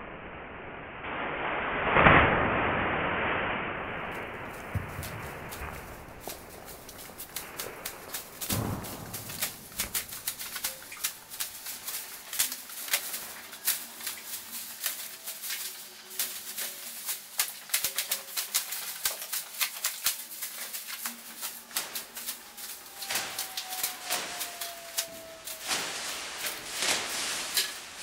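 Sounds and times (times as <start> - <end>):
plastic bags crinkling: 4.3 - 28.0.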